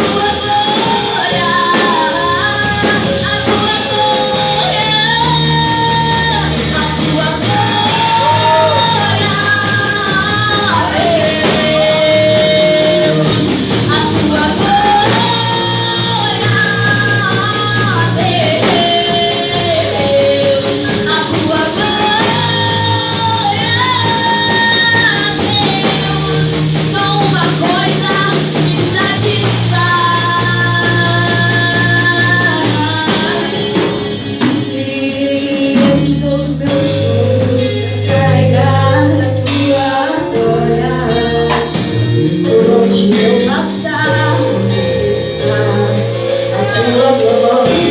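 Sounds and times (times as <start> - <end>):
bass and drums: 0.0 - 47.9
person singing: 0.0 - 47.9.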